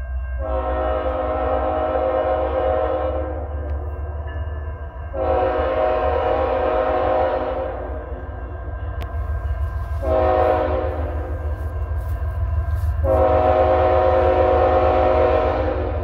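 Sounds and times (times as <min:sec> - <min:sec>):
train air horn blasts: 0:00.4 - 0:03.8, 0:05.1 - 0:08.1, 0:09.0 - 0:16.0.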